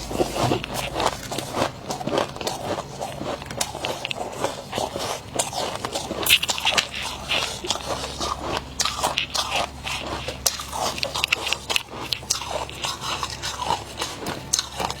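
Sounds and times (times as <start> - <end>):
crunching and chewing frost: 0.0 - 15.0.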